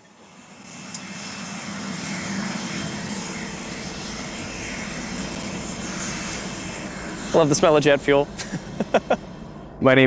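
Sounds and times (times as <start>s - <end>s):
aircraft engine drone: 0.0s - 10.0s.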